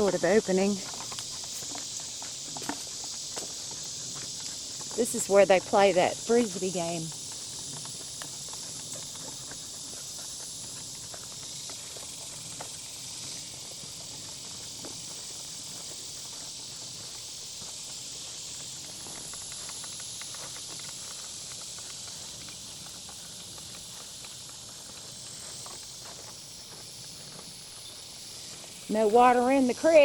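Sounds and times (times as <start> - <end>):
footsteps crunching on trail: 0.0 - 30.0
high-pitched insect drone: 0.0 - 30.0.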